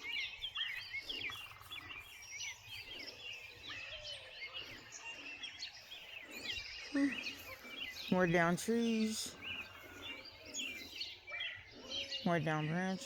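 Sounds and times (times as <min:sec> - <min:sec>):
faint outdoor background noise: 0:00.0 - 0:13.0
songbirds chirping and singing: 0:00.0 - 0:13.0.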